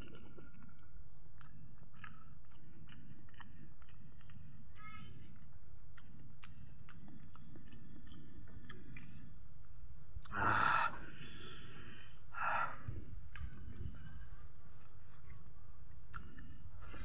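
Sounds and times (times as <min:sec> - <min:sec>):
person chewing food: 0:00.0 - 0:09.5, 0:10.2 - 0:17.0.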